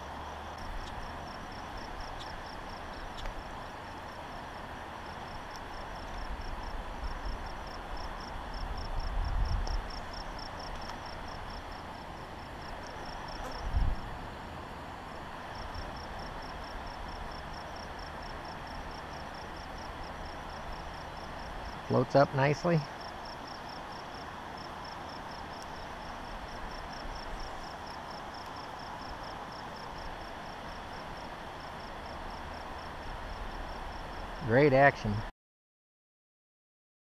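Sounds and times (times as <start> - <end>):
insect chirping trill: 0.0 - 14.1, 15.1 - 35.2
outdoor hiss: 0.0 - 35.3.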